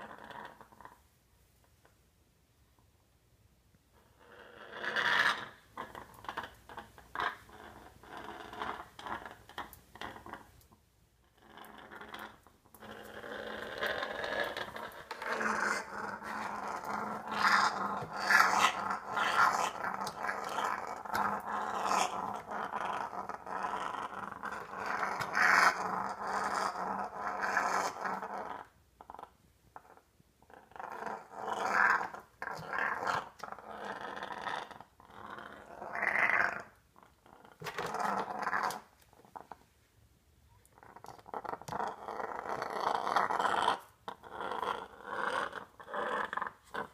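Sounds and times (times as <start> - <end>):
parrot growling: 0.0 - 1.0, 4.0 - 10.5, 11.3 - 39.6, 40.7 - 46.9.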